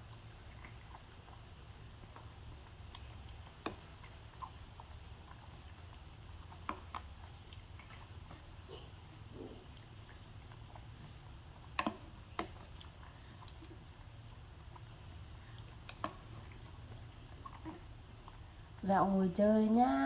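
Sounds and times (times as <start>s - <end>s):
monkey eating clicks and taps: 0.0s - 13.9s, 14.6s - 18.5s
low steady hum: 0.0s - 20.0s.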